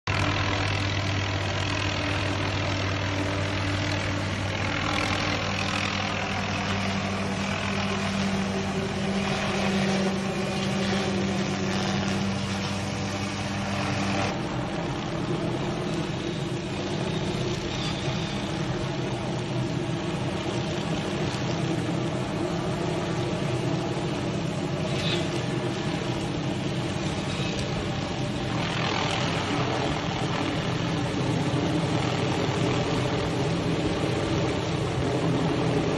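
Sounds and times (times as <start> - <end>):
helicopter engine and rotor drone: 0.0 - 35.9.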